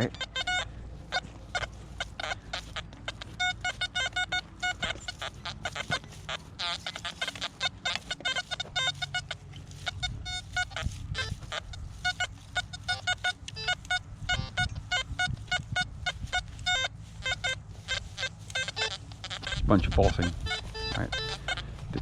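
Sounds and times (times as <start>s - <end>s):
metal detector short beeps: 0.0s - 22.0s.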